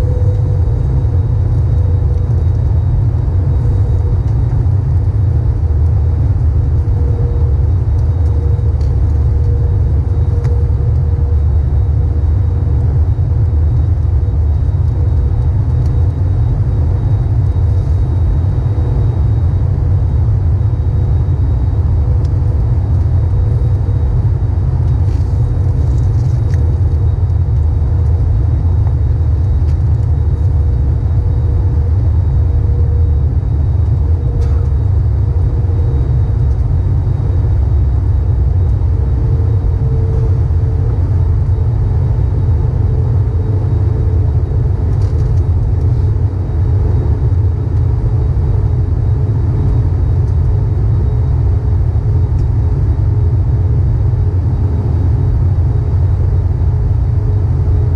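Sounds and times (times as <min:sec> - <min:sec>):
faint steady tone: 0:00.0 - 0:53.5
airplane cabin rumble: 0:00.0 - 0:57.9.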